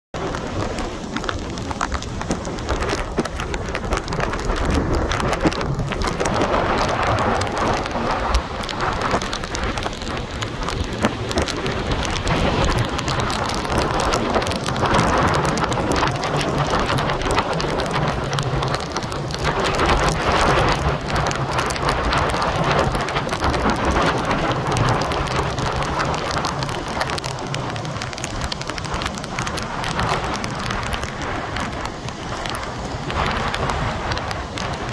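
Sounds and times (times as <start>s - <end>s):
wind on microphone rumble: 0.1s - 34.9s.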